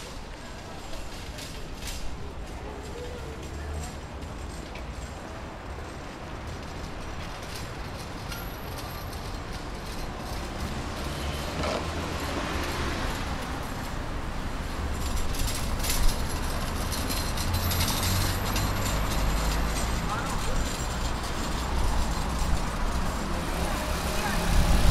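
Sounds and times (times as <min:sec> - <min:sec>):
street traffic: 0:00.0 - 0:24.9
vehicle rumble approaching: 0:00.0 - 0:24.9.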